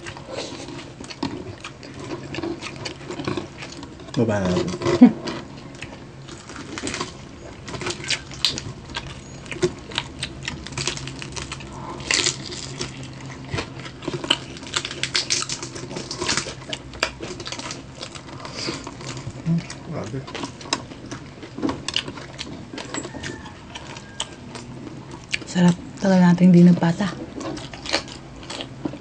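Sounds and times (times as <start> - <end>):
crunchy food being chewed: 0.0 - 29.0
low hum: 3.2 - 29.0.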